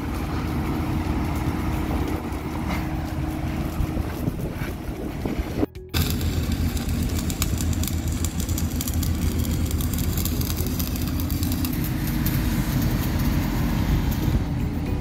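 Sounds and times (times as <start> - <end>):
arc welding crackling: 0.0 - 15.0
engine running low: 0.0 - 15.0.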